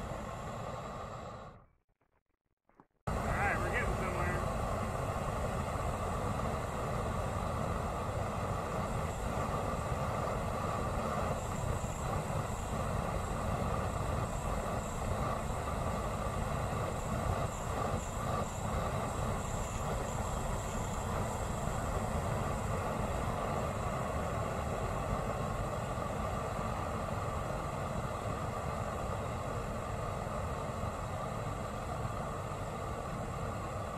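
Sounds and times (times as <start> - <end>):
propane flamethrower burning: 0.0 - 1.6, 3.1 - 33.9.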